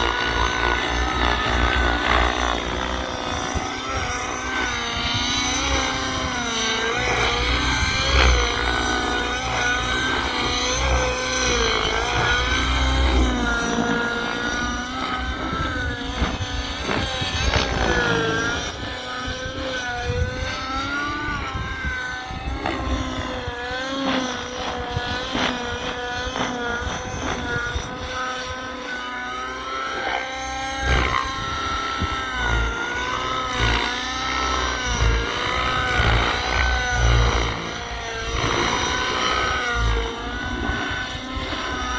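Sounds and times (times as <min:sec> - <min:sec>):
model helicopter engine whining: 0:00.0 - 0:41.9.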